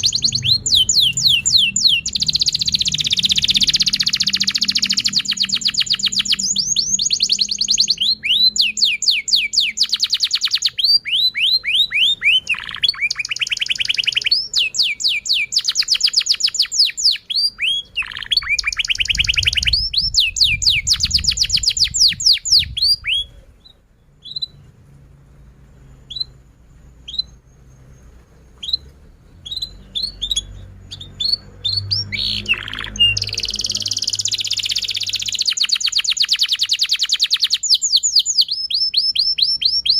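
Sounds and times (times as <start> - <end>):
canary singing trills: 0.0 - 24.8, 25.7 - 39.9.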